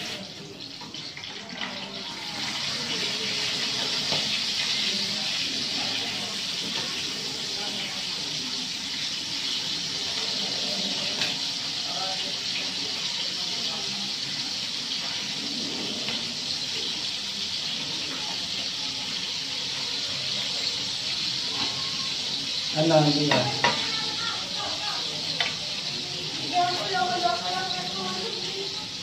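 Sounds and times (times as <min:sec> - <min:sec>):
fish sizzling in hot oil: 0:00.0 - 0:29.0.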